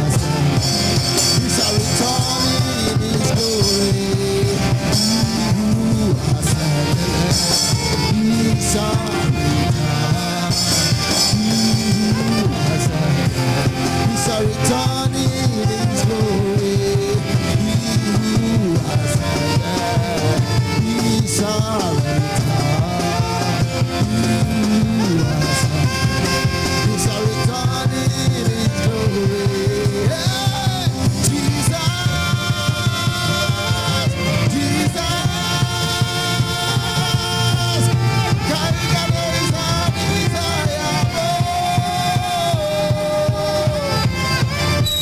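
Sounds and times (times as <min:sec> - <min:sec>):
man singing into microphone: 0:00.0 - 0:44.8
instrumental accompaniment with beat: 0:00.0 - 0:45.0.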